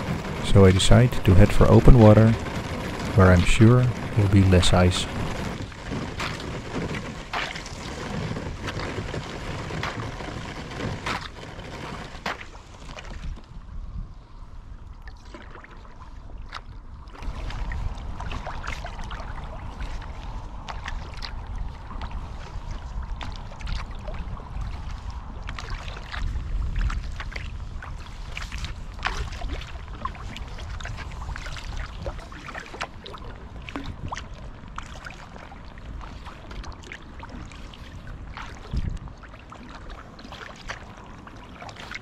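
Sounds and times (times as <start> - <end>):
paddle splashing water: 0.0 - 13.6, 14.9 - 42.0
water lapping against hull: 0.0 - 42.0
wind rumble on microphone: 0.0 - 42.0.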